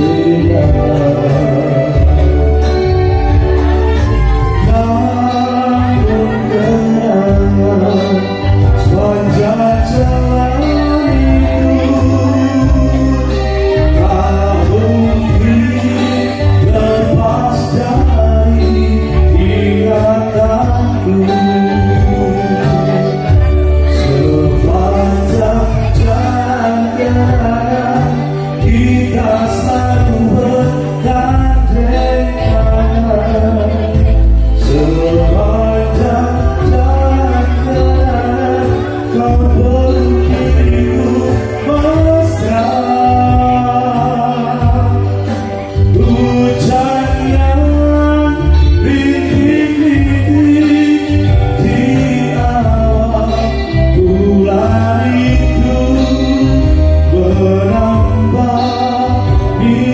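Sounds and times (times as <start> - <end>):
electric guitar: 0.0 - 59.9
heavy bass: 0.0 - 59.9
keyboard: 0.0 - 59.9
man singing into a microphone: 0.0 - 59.9.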